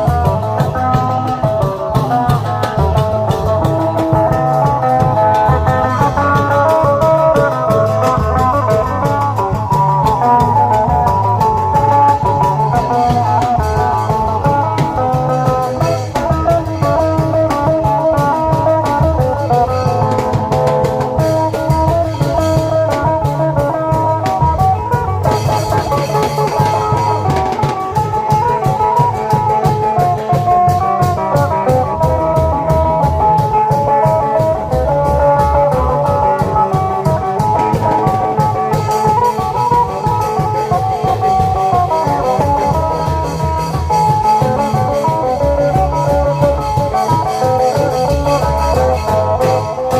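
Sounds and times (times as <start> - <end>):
fast drumming: 0.0 - 49.9
plucked string melody: 0.0 - 49.9.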